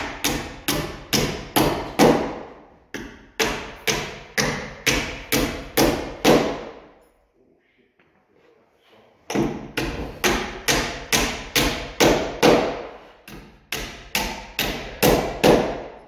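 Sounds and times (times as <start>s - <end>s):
hammer driving nails into wood: 0.0s - 6.8s, 9.3s - 16.0s.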